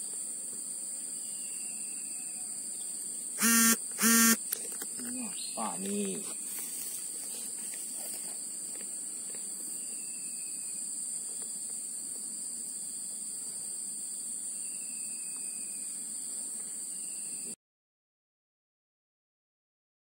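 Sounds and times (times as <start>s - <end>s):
high-pitched insect drone: 0.0s - 17.6s.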